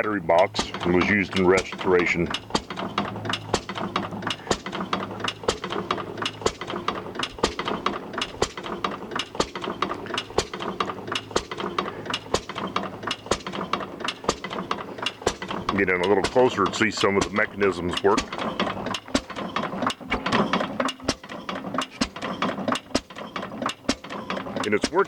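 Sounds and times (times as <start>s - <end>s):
engine mechanism clicking: 0.0s - 25.0s.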